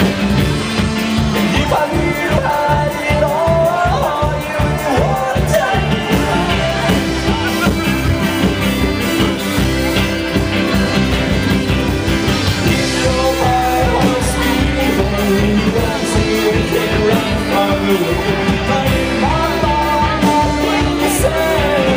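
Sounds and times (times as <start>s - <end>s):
upright bass: 0.0s - 21.9s.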